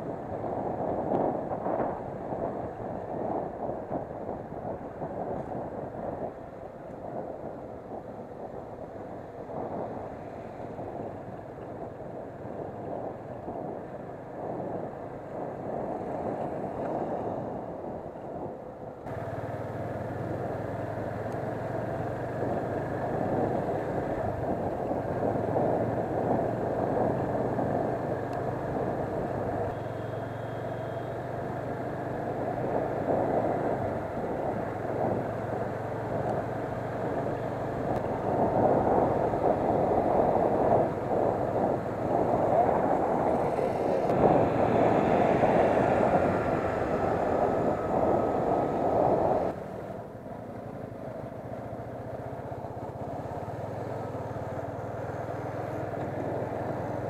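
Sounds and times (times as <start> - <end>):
motorcycle engine hum: 0.0 - 57.0
wind and road noise: 0.0 - 57.0.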